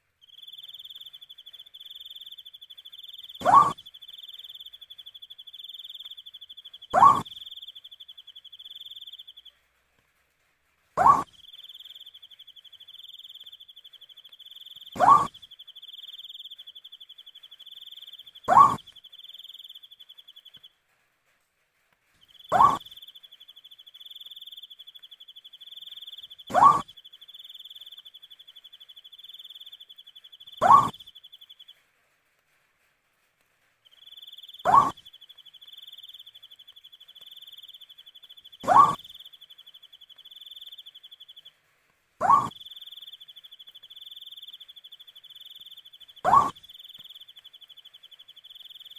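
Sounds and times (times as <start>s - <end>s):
owl hooting: 0.3s - 9.4s, 11.0s - 20.4s, 22.3s - 31.4s, 34.0s - 41.4s, 42.2s - 48.9s.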